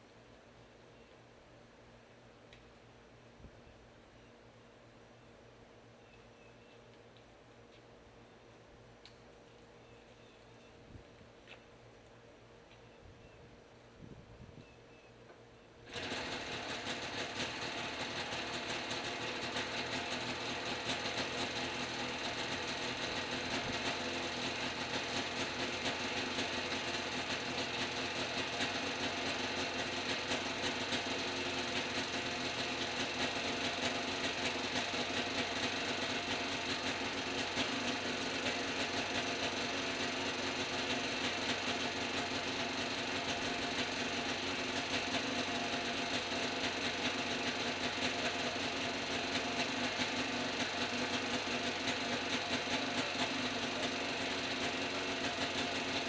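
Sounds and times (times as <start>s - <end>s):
small engine running steadily: 5.0s - 13.4s, 14.3s - 56.0s.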